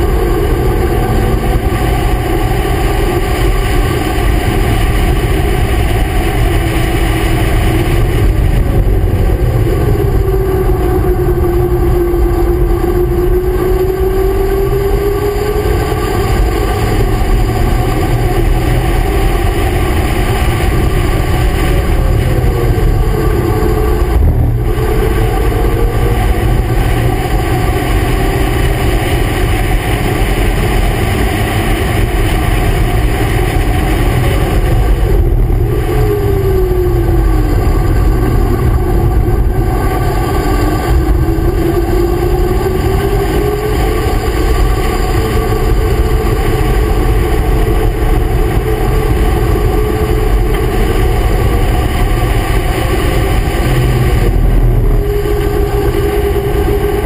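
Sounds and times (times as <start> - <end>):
race car engine: 0.0 - 57.0
wind rumble on microphone: 0.0 - 57.0.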